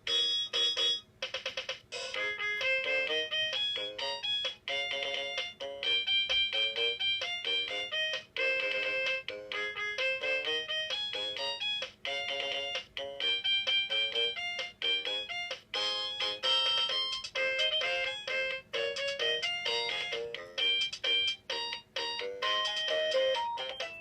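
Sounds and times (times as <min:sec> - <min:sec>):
toy keyboard electronic beeping melody: 0:00.0 - 0:24.0.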